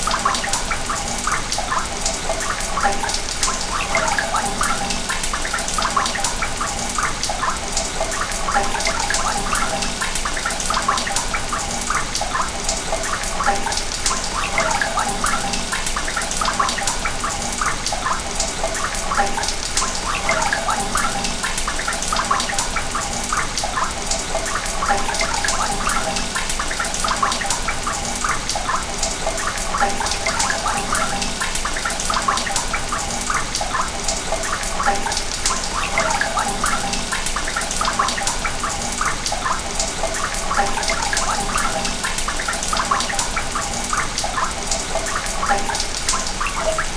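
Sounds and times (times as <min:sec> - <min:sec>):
water rushing through pipe: 0:00.0 - 0:46.9.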